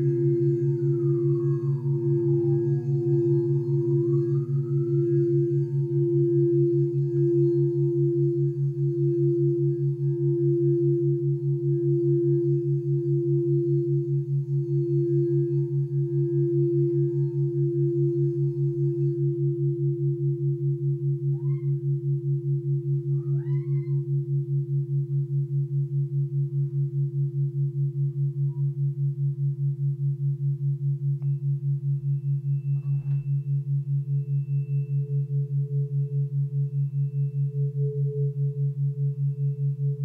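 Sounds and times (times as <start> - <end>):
crystal singing bowl tone: 0.0 - 40.0
low pulsing drone: 0.0 - 40.0.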